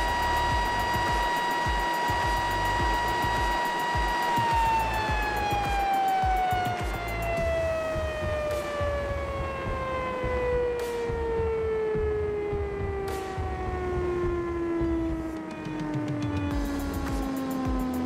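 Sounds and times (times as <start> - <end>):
mill whine falling in pitch: 0.0 - 18.0.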